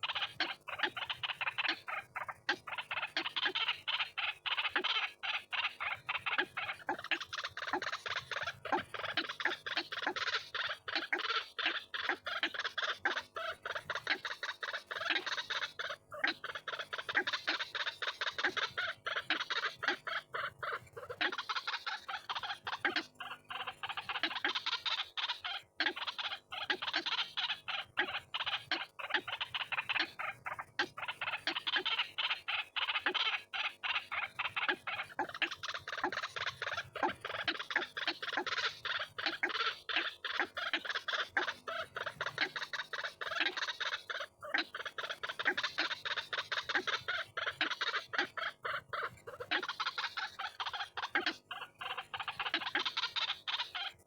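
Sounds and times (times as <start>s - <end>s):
birds calling harsh repeated notes: 0.0s - 54.0s.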